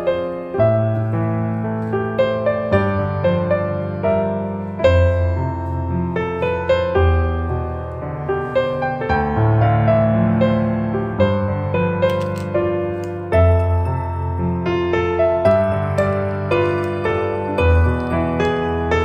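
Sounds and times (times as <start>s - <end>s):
slow piano piece: 0.0s - 19.0s.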